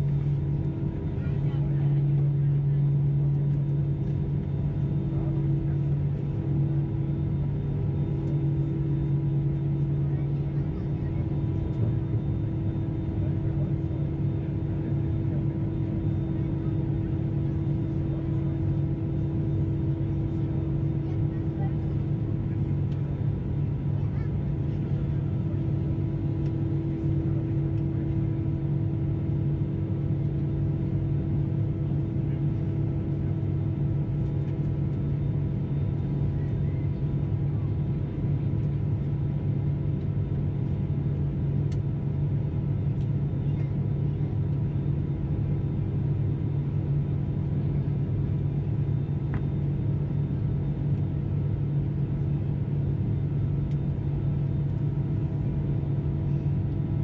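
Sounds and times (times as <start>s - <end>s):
aircraft cabin engine drone: 0.0s - 57.0s.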